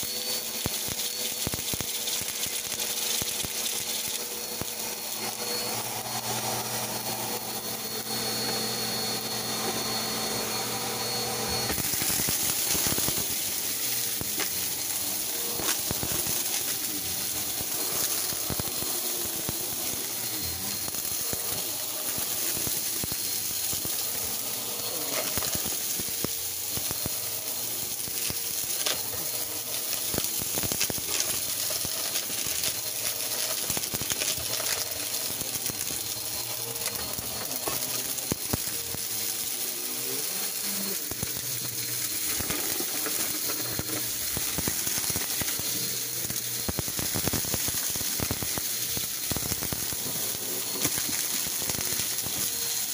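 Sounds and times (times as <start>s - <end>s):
vacuum cleaner running: 0.0s - 52.9s
debris rattling up vacuum nozzle: 0.1s - 52.9s.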